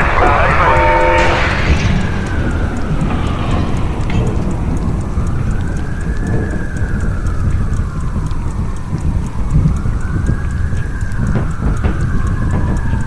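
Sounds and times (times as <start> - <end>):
heavy low rumble: 0.0 - 13.0
siren wailing: 0.0 - 13.0.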